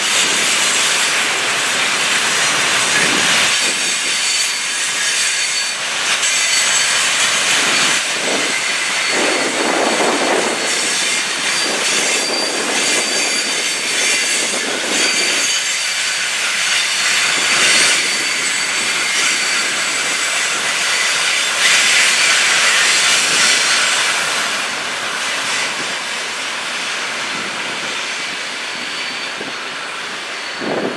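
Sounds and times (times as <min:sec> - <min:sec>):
train wheels rolling on rails: 0:00.0 - 0:30.9
high-pitched wheel squeal: 0:00.4 - 0:24.4, 0:26.9 - 0:30.9.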